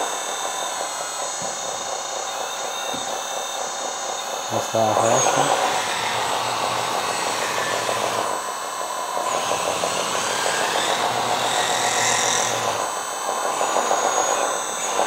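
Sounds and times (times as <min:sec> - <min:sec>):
electric drive and pump whir: 0:00.0 - 0:15.0
simulated diesel engine: 0:00.0 - 0:15.0.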